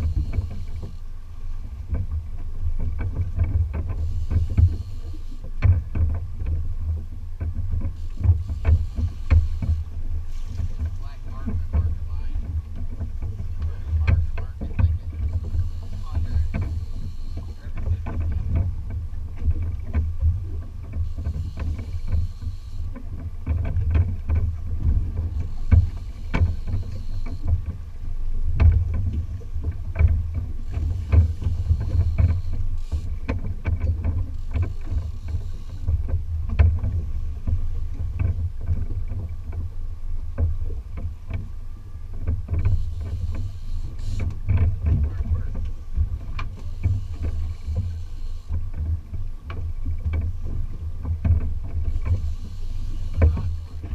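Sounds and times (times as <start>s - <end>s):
steady low rumble: 0.0s - 53.9s.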